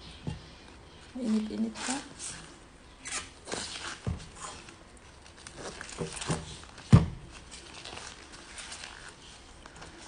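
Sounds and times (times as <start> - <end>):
corn husk rustling and tearing: 1.2 - 10.0.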